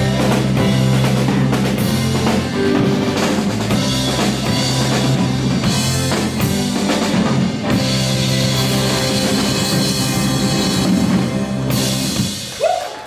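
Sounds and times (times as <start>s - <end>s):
rock band closing chord: 0.0s - 12.6s.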